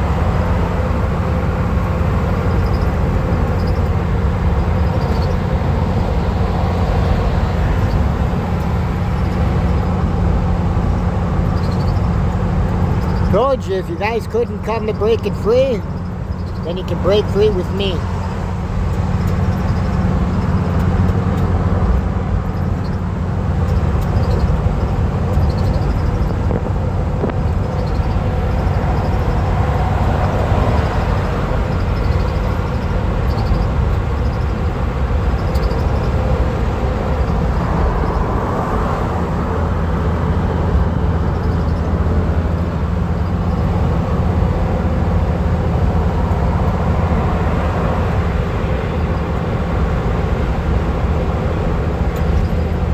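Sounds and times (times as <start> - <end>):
van driving at speed: 0.0 - 52.9.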